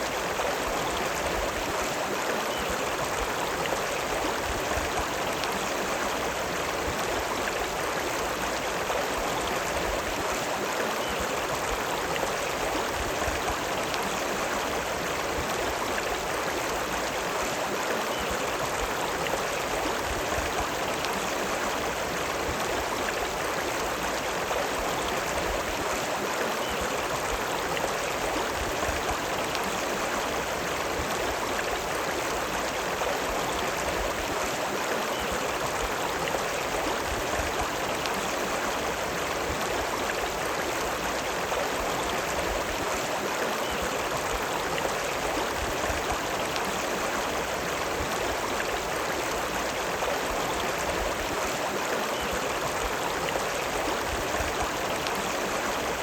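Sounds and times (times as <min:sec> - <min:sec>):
river water running: 0:00.0 - 0:56.0.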